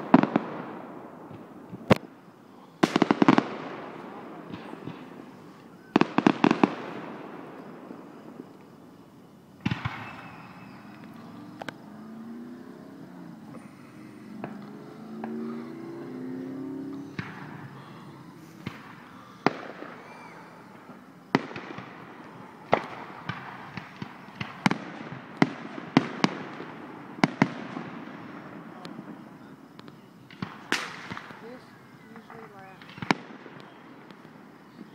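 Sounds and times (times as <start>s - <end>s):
fireworks booming and cracking: 0.0s - 34.9s.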